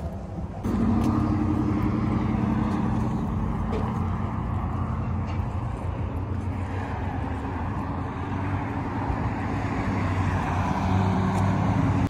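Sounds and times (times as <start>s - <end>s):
low engine hum: 0.0s - 12.0s
passing cars rumbling: 0.0s - 12.0s.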